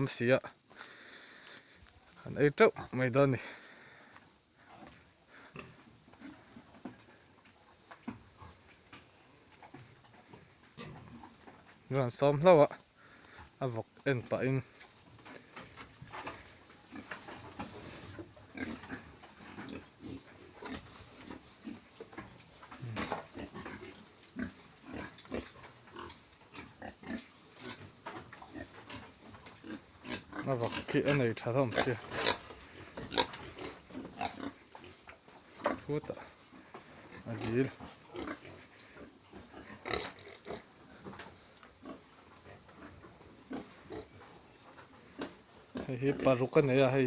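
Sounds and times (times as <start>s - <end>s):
pigs grunting: 2.5s - 7.3s, 9.7s - 47.0s.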